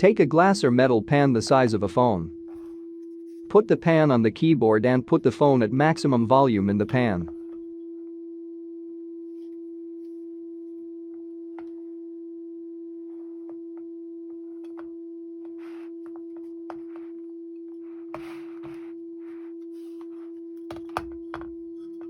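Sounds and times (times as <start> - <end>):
steady pure tone from phone speaker: 0.0 - 22.0.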